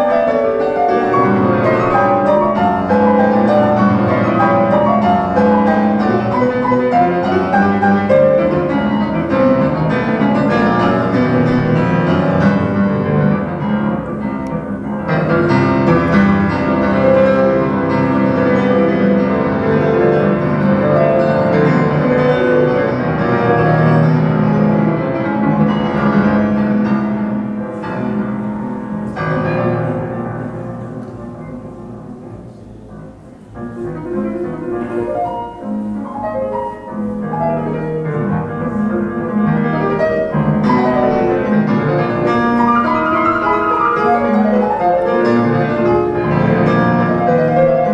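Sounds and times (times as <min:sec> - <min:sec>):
classical music over loudspeakers: 0:00.0 - 0:47.9.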